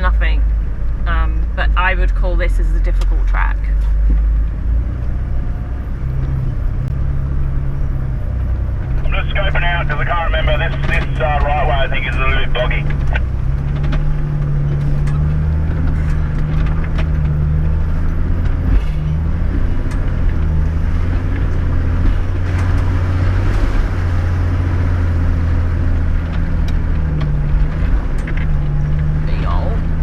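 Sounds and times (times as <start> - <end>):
truck engine running low revs: 0.0 - 30.0.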